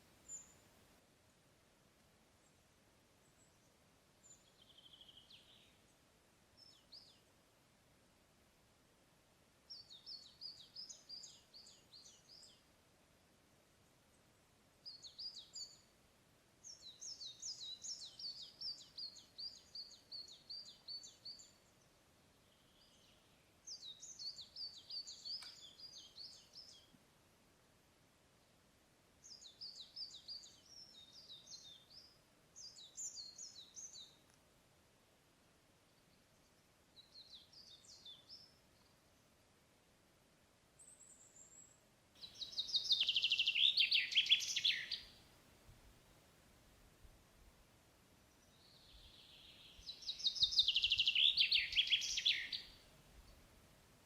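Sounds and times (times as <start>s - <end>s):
faint steady hiss: 0.0s - 54.0s
songbird chirping: 0.0s - 54.0s.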